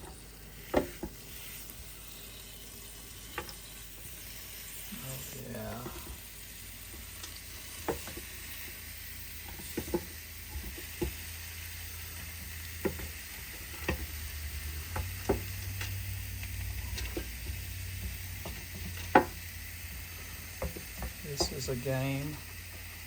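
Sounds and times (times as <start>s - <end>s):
meat sizzling on a grill: 0.0s - 23.0s.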